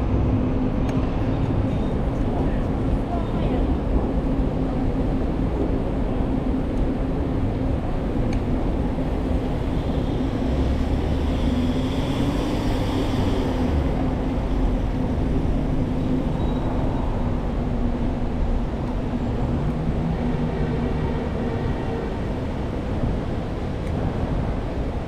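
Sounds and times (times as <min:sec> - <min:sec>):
street traffic rumble: 0:00.0 - 0:25.0
wind: 0:00.0 - 0:25.0.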